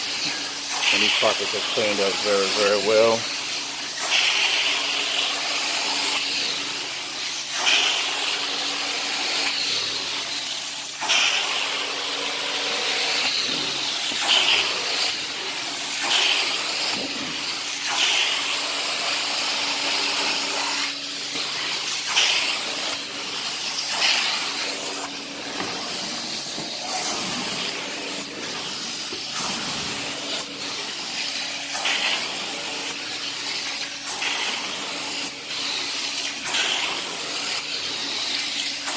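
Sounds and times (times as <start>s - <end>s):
extraction wand suction hiss: 0.0s - 38.9s.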